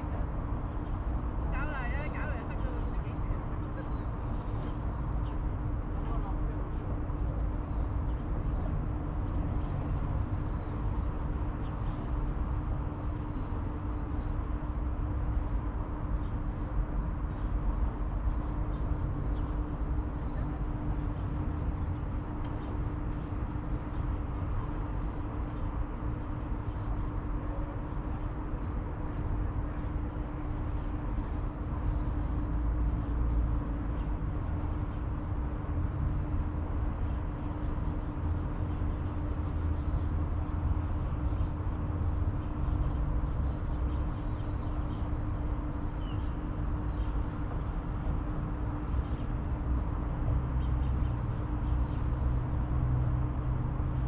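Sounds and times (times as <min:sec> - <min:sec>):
distant city traffic rumble: 0:00.0 - 0:54.0.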